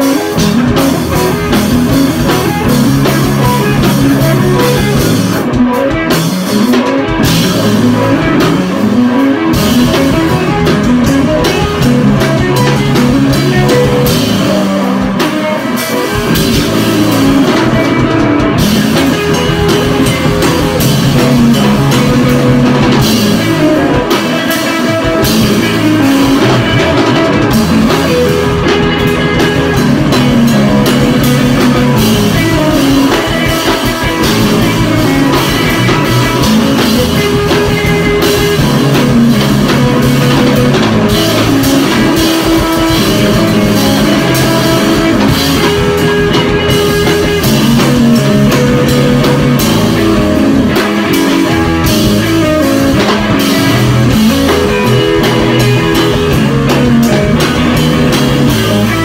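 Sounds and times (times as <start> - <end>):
loud rock music: 0.0 - 59.0.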